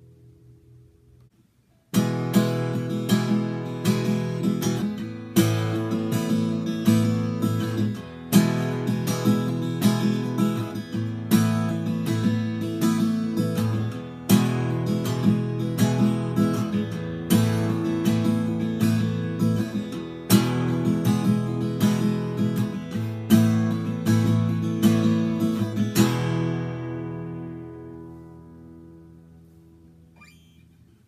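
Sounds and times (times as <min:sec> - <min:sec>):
acoustic guitar chords and picking: 0:00.0 - 0:31.0.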